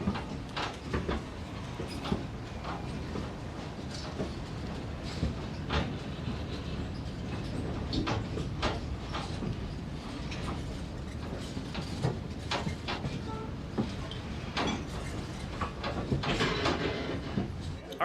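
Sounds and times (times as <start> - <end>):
clanks and rattles: 0.0 - 17.8
railcar rolling rumble: 0.0 - 18.0.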